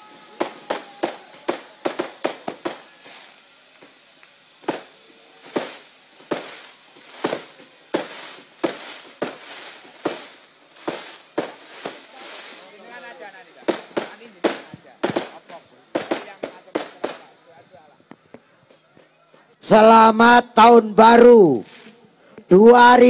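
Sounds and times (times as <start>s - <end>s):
fireworks bangs: 0.0s - 20.0s, 21.5s - 23.0s.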